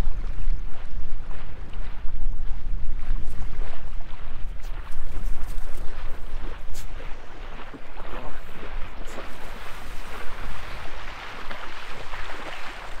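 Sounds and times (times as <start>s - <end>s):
small waves breaking on shore: 0.0s - 13.0s
wind buffeting microphone: 0.0s - 13.0s.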